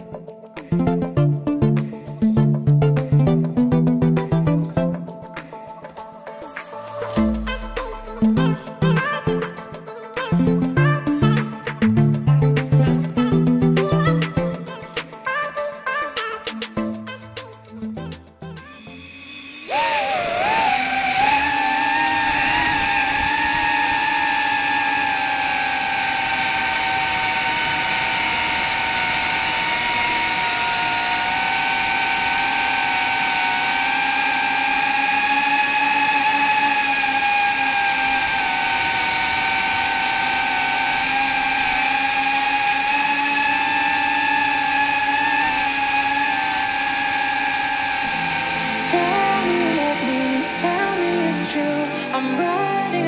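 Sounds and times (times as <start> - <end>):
drone propellers whining: 0.0 - 17.1, 18.6 - 53.0.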